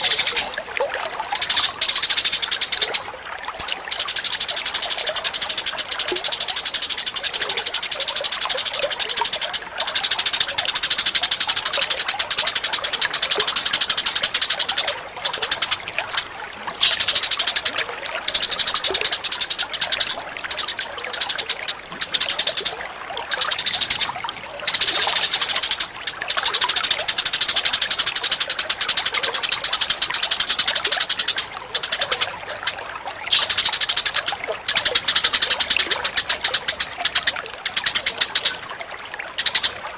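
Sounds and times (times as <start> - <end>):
birds chattering trill: 0.0 - 0.6, 1.3 - 38.7, 39.3 - 39.9.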